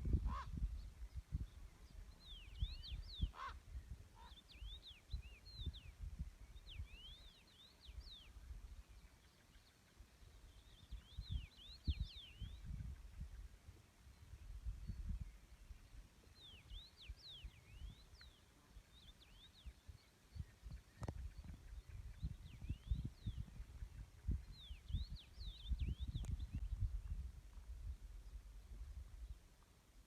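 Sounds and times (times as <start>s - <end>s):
songbird whistling song: 0.8s - 12.8s, 14.1s - 23.7s, 24.3s - 26.8s.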